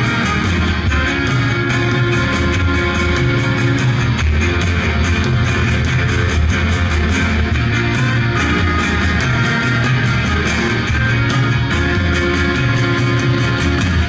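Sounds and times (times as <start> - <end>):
heavy bass line: 0.0 - 14.0
live rock band playing: 0.0 - 14.0
saxophones: 0.0 - 14.0
strummed guitars: 0.0 - 14.0.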